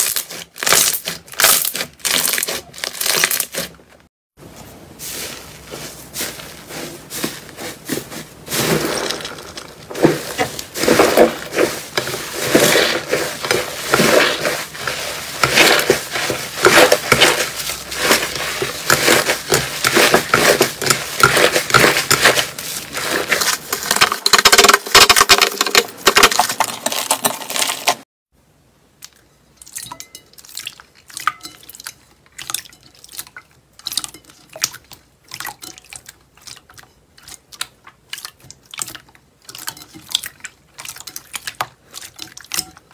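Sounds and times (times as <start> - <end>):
slime crackling and squelching: 0.0 - 3.8, 5.1 - 28.0, 30.4 - 42.9.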